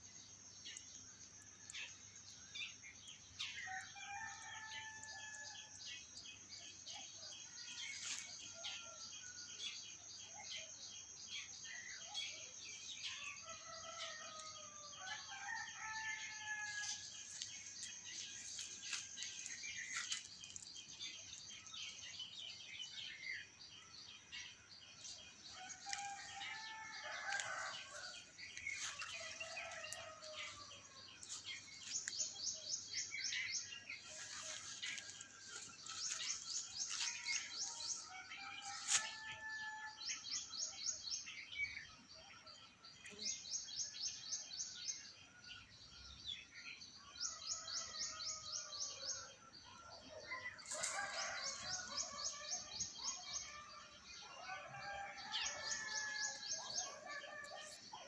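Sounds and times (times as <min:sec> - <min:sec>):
birds calling and singing: 0:00.0 - 0:58.0.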